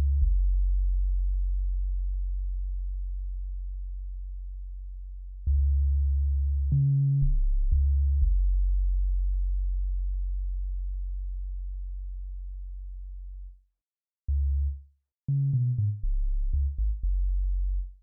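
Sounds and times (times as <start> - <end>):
synthesized bass notes: 0.0 - 13.0, 14.3 - 18.0.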